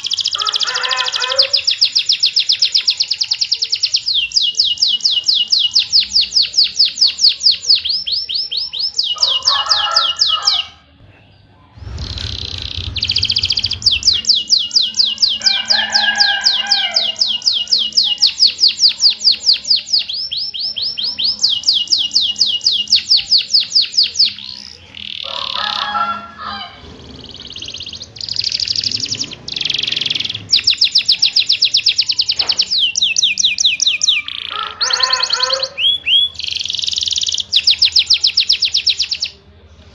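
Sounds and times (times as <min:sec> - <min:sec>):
canary singing: 0:00.0 - 0:10.8, 0:11.8 - 0:39.6.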